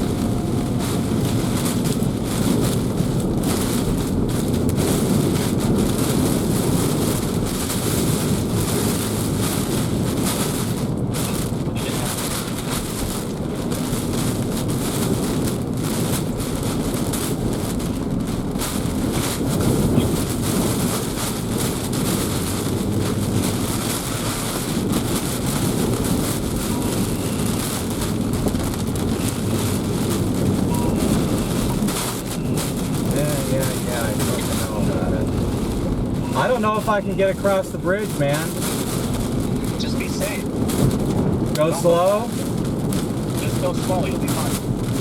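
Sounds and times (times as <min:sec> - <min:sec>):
driving rain: 0:00.0 - 0:45.0
strong wind: 0:00.0 - 0:45.0
wind battering microphone: 0:00.0 - 0:45.0.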